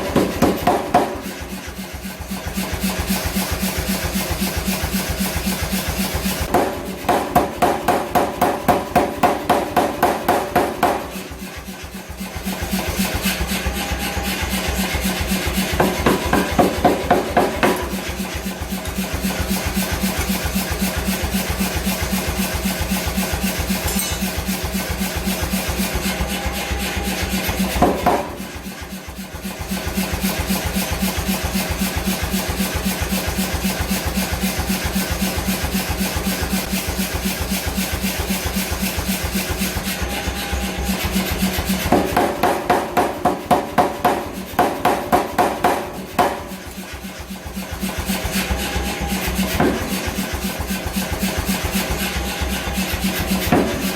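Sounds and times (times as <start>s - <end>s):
machine running: 0.0s - 53.9s.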